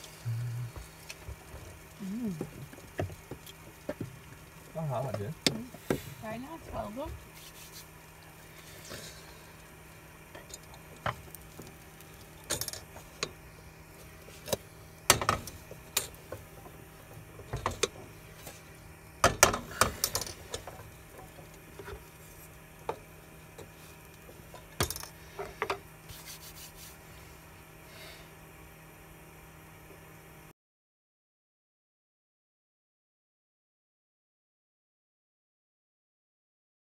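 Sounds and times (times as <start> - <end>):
low steady hum: 0.0 - 30.5.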